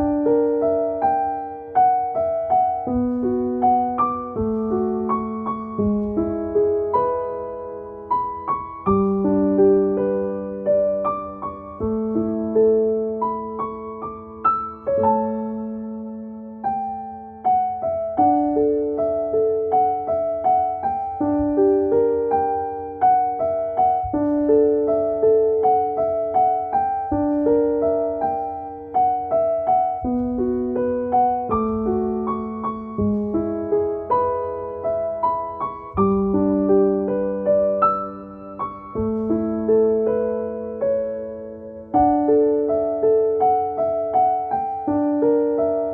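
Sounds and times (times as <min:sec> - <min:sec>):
soft piano music: 0:00.0 - 0:45.9.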